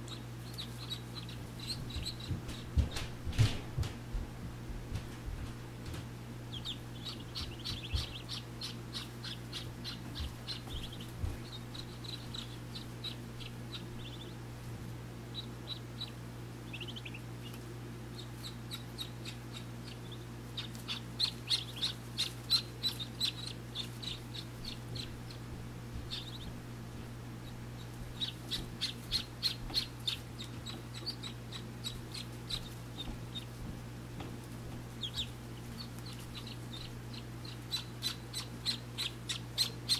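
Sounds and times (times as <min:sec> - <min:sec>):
ducklings peeping: 0:00.0 - 0:03.4, 0:06.4 - 0:39.9
low hum: 0:00.0 - 0:39.9.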